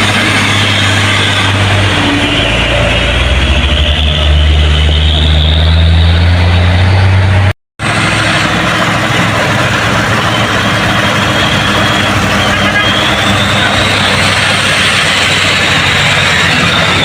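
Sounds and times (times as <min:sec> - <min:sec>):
noisier engine: 0:00.0 - 0:17.0
truck engine humming: 0:00.0 - 0:17.0.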